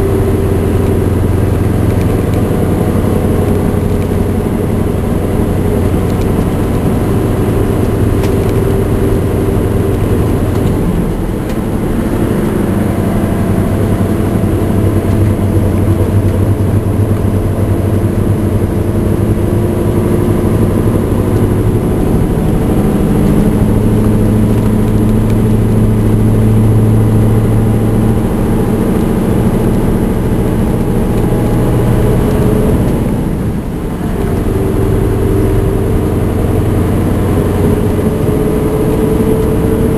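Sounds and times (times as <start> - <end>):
diesel truck engine pulling hard: 0.0 - 39.9.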